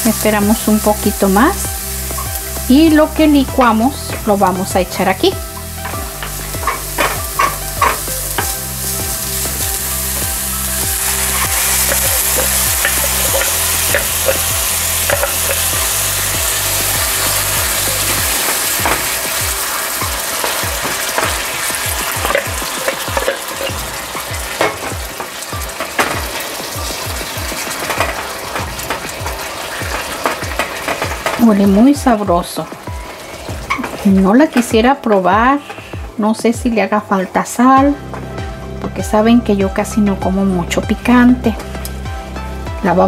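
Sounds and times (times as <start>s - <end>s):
onion sizzling in hot oil: 0.0s - 43.0s.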